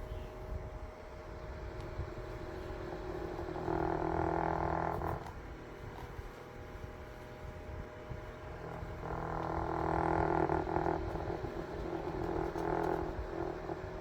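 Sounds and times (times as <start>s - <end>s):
small electric motor humming: 0.0s - 14.0s.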